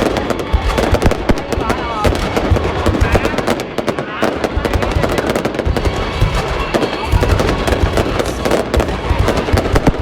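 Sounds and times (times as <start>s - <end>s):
fireworks pops and bangs: 0.0s - 10.0s.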